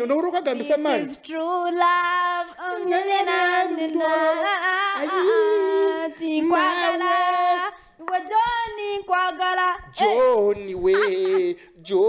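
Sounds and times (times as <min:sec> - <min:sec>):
woman singing with vibrato: 0:00.6 - 0:10.4.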